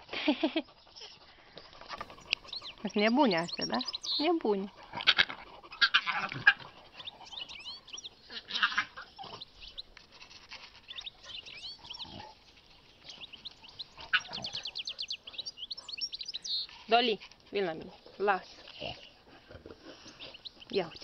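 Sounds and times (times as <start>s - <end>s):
small birds chirping: 0.3s - 21.0s.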